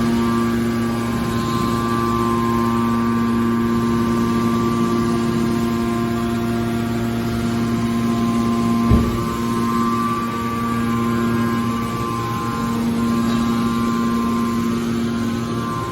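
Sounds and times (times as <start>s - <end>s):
industrial machinery humming: 0.0s - 15.9s.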